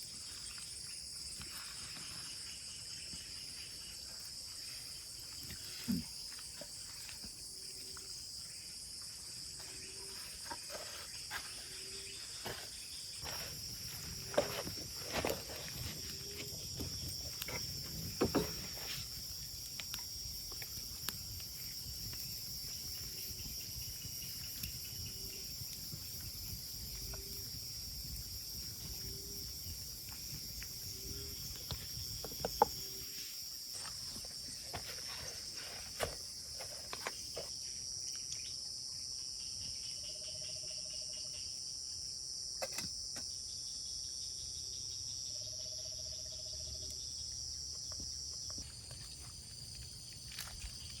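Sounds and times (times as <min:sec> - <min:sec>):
insects chirping: 0:00.0 - 0:51.0.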